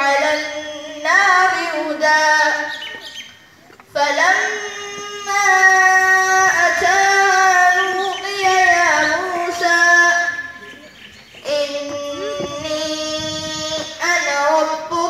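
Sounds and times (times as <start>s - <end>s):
child chanting melodically: 0.0s - 3.0s, 3.8s - 15.0s.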